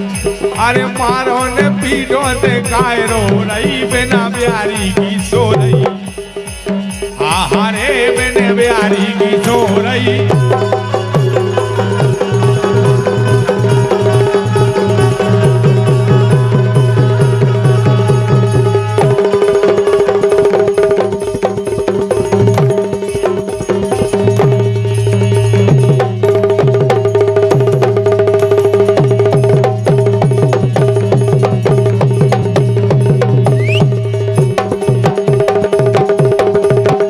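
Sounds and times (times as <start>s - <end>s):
fast hand-drumming: 0.0s - 37.0s
held melodic notes: 0.0s - 37.0s.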